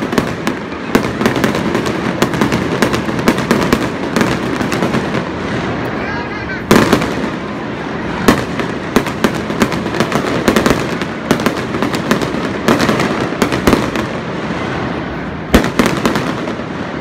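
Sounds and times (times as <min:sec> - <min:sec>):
fireworks bangs and pops: 0:00.0 - 0:17.0
fireworks crackle: 0:00.0 - 0:17.0.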